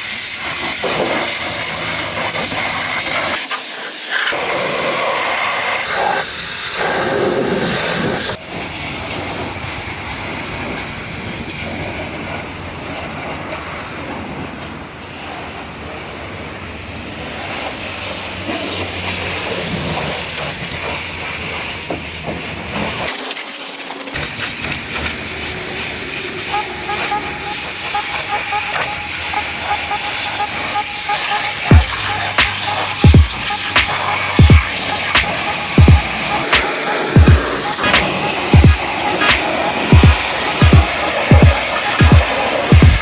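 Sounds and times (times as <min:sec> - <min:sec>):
pressure washer spray hissing: 0:00.0 - 0:43.0.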